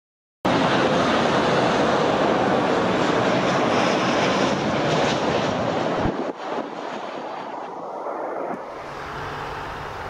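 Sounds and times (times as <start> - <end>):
jet engines roaring overhead: 0.5 - 10.0.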